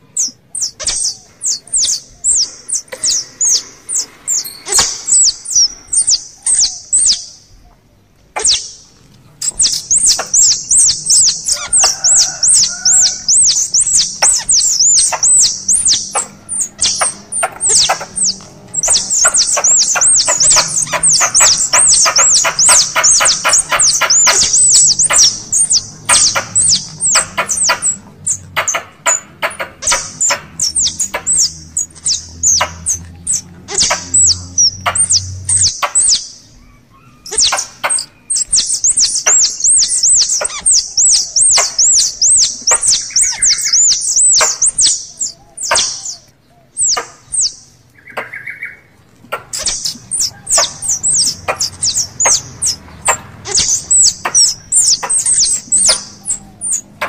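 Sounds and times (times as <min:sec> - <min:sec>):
squirrel chips and chirps: 0:00.1 - 0:07.4, 0:08.3 - 0:57.0.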